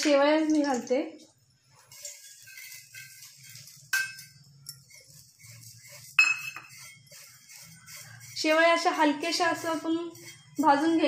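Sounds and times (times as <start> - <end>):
steel utensils clinking on pan: 1.8 - 11.0.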